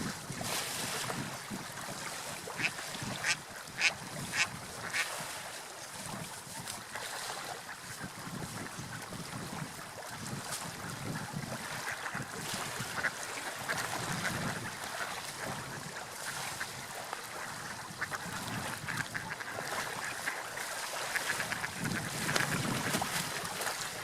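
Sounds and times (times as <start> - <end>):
sea waves washing: 0.0 - 24.0
wind: 0.0 - 24.0.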